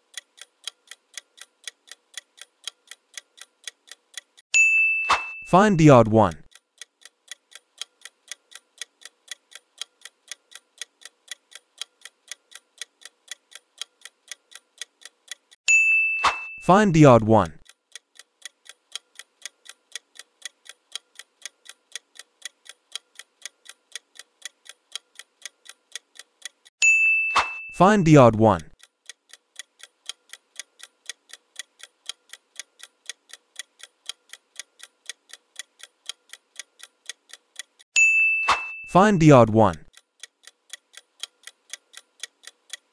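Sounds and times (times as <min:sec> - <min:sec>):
clock ticking: 0:00.0 - 0:04.4, 0:05.1 - 0:15.6, 0:16.2 - 0:26.7, 0:27.3 - 0:42.9.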